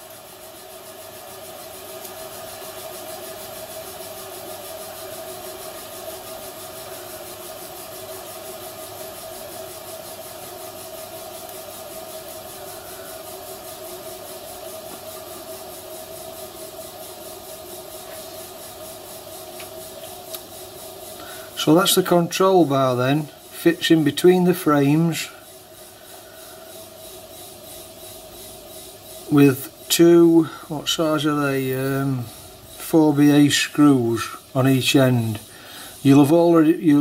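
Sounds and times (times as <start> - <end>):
hiss: 0.0 - 37.0
steady mechanical hum: 0.0 - 37.0.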